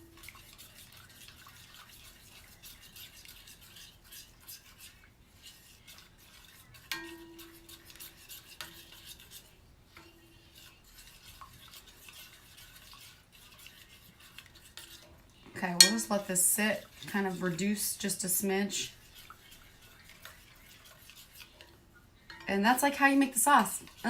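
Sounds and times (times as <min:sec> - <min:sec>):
spoon stirring sauce in a pan: 0:00.0 - 0:24.0.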